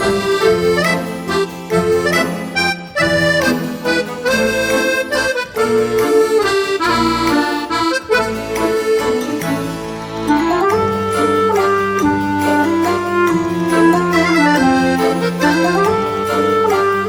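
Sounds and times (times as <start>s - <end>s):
background music melody: 0.0s - 17.0s.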